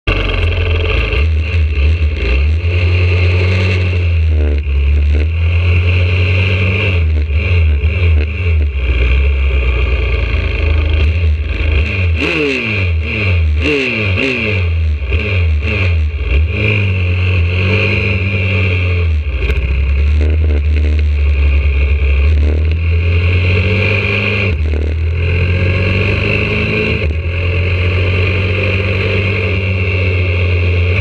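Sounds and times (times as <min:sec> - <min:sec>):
motorbike engine revving: 0:00.0 - 0:31.0.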